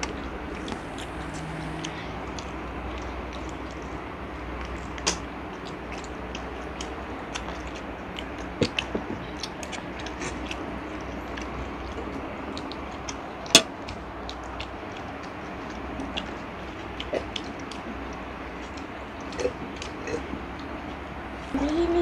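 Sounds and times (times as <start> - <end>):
children chewing: 0.0 - 22.0
steady low hum: 0.0 - 22.0.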